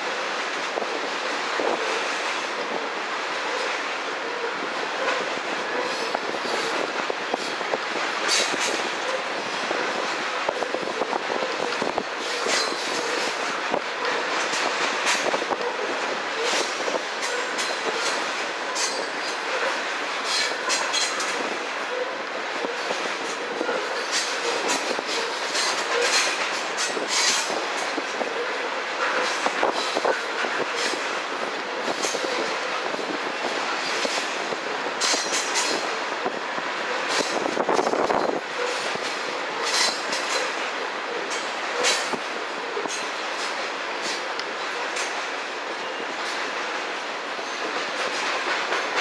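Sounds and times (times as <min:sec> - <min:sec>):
freight train rolling past: 0:00.0 - 0:49.0
wheels clicking over rail joints: 0:00.0 - 0:49.0.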